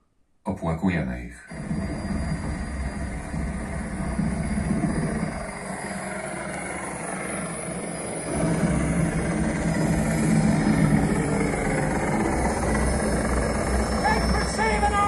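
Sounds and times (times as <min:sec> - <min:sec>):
engine rumble: 0:01.4 - 0:15.0.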